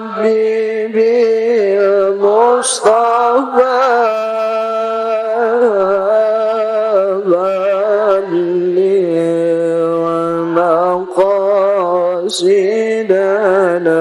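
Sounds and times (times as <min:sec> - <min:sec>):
man chanting a prayer: 0:00.0 - 0:14.0.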